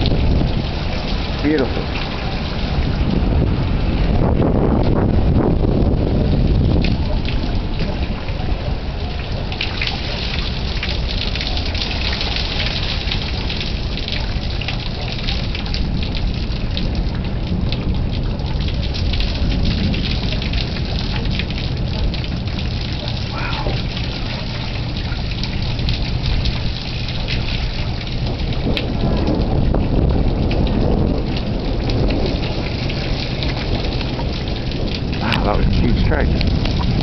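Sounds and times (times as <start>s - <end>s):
heavy rain falling: 0.0s - 37.0s
low thunder rumble: 0.0s - 37.0s.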